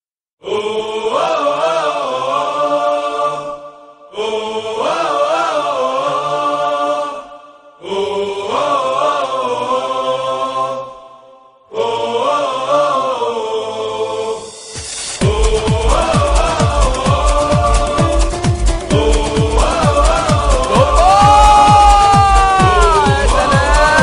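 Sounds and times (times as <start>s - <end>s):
chant-like melodic music: 0.4s - 24.0s.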